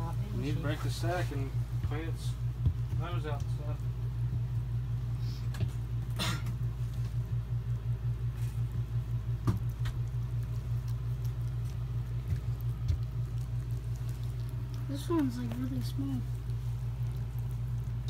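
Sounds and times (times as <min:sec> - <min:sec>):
low pulsing hum: 0:00.0 - 0:18.0
soft rustling and wet clicks: 0:00.1 - 0:18.0.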